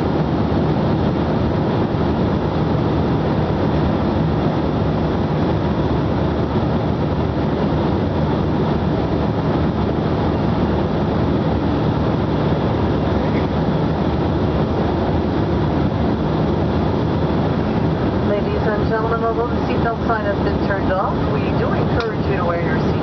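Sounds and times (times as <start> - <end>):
airliner cabin airflow and engine drone: 0.0 - 23.0.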